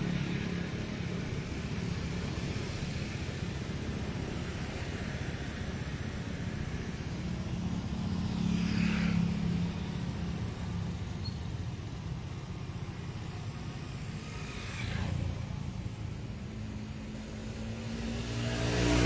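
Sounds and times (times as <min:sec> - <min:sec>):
traffic engine rumble: 0:00.0 - 0:19.0
vehicles passing by: 0:00.0 - 0:19.0.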